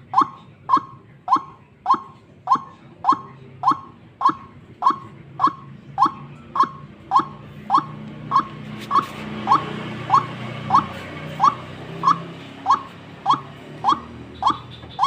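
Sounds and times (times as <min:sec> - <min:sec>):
bird lure call sharp notes: 0:00.0 - 0:15.0.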